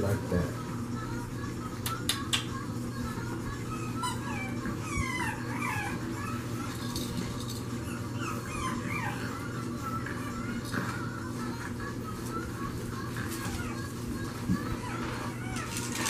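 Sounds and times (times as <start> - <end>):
puppies whining and squealing: 2.9 - 16.0.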